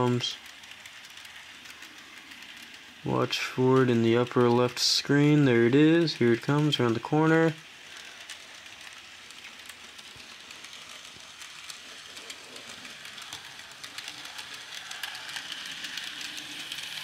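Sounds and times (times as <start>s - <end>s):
model train clicking on track: 0.0s - 17.0s
model train motor whir: 0.0s - 17.0s.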